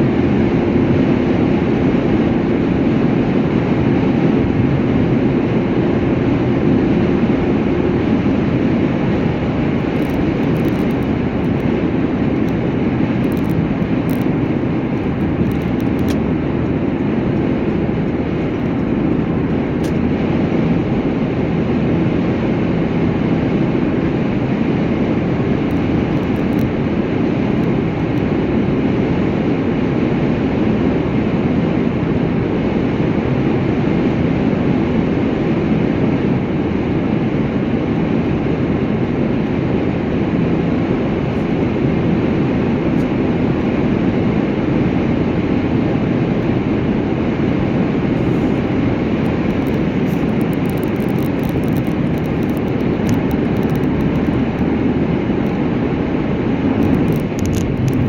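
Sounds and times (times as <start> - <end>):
vehicle travelling at speed: 0.0 - 58.0.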